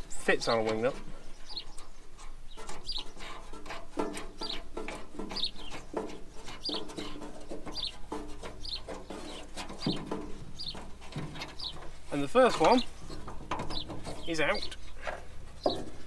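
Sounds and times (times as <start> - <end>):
birds chirping: 0.0 - 16.0
lower bird calls: 0.5 - 15.9.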